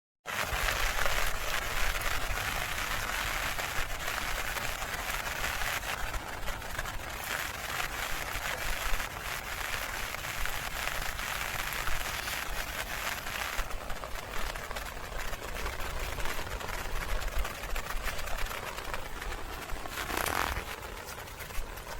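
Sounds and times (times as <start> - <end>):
heavy rain falling: 0.3 - 21.9.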